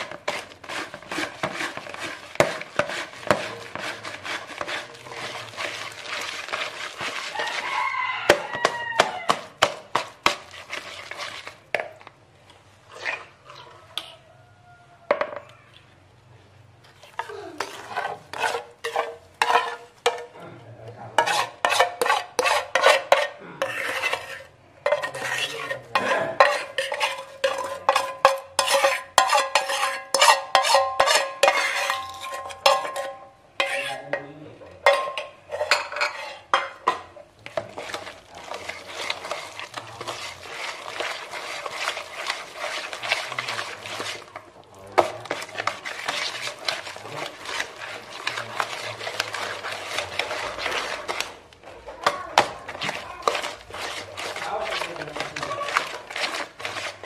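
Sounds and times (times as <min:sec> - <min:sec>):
wire whisk beating batter in bowl: 0:00.0 - 0:12.0, 0:17.0 - 0:57.0.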